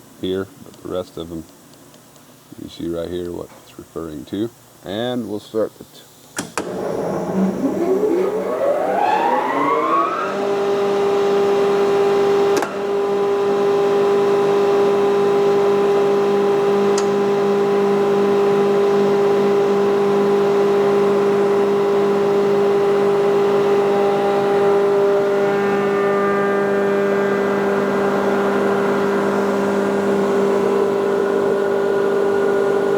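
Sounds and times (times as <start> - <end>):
air compressor hum and whine: 0.0 - 32.9.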